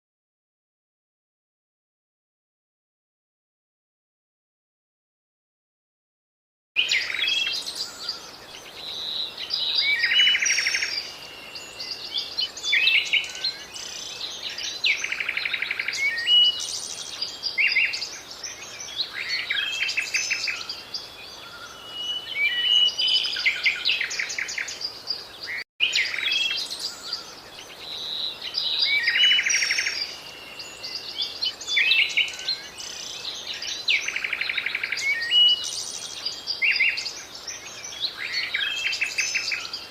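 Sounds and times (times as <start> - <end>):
birds singing and calling: 6.8 - 39.9.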